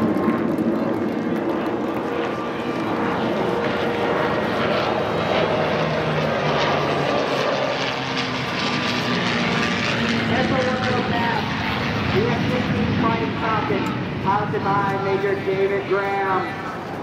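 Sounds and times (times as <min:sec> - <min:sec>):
distant aircraft engine drone: 0:00.0 - 0:17.0.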